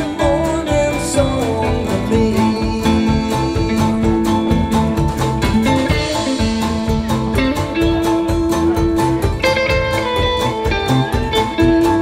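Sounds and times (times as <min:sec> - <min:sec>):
band playing instrumental: 0:00.0 - 0:12.0
guitar: 0:00.0 - 0:12.0.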